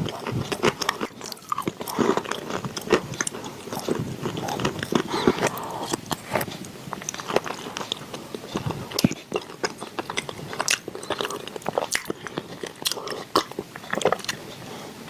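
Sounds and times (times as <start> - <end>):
chewing chalk crunches: 0.1 - 14.4.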